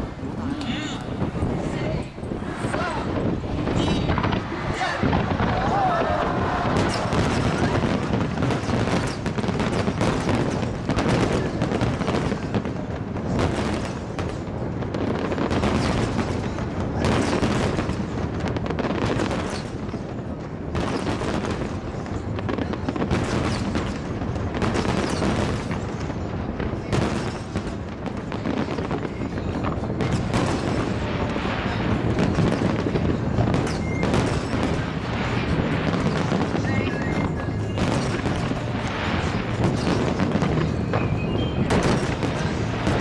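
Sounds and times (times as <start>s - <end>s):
fireworks booms: 0.0s - 43.0s
fireworks crackling bursts: 0.0s - 43.0s.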